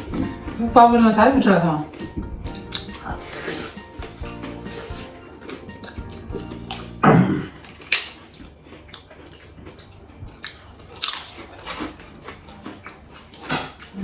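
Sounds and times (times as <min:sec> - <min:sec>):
chewing and biting: 0:00.0 - 0:00.7, 0:01.4 - 0:14.0
wet mouth noises: 0:01.9 - 0:14.0.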